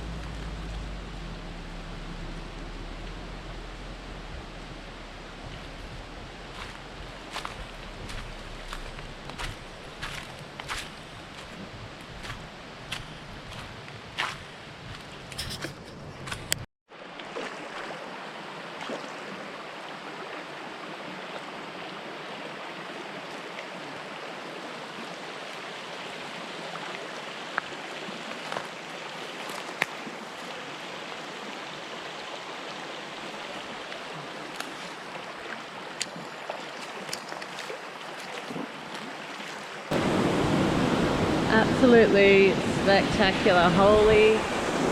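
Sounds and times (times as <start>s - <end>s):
creek water flowing: 0.0s - 44.9s.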